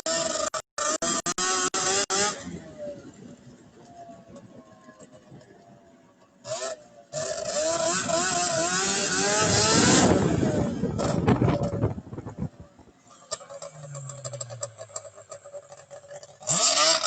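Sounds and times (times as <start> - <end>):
go-kart engine revving: 0.0 - 17.0.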